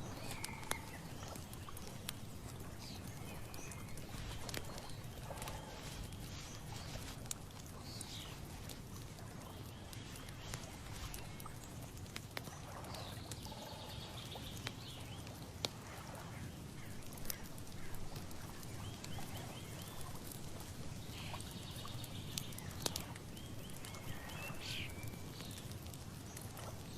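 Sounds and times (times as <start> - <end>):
birds chirping: 0.0 - 25.7.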